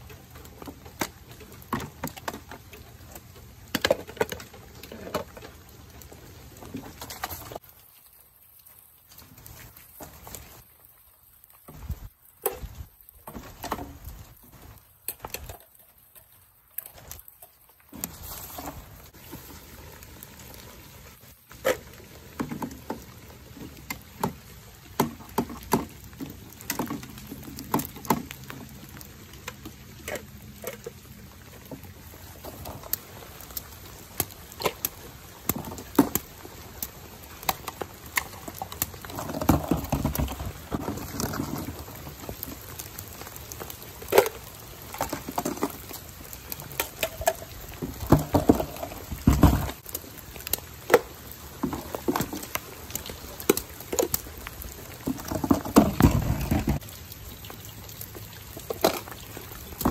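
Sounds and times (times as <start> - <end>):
light rain pattering: 0.0 - 59.9.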